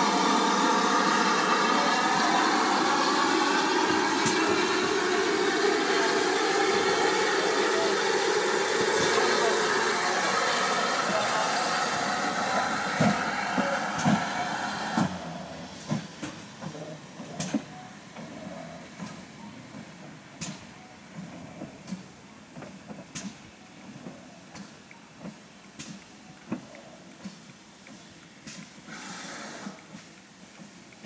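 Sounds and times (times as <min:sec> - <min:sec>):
loud hiss of steam: 0:00.0 - 0:26.6, 0:27.2 - 0:30.8
steam locomotive exhaust beats: 0:00.0 - 0:31.0.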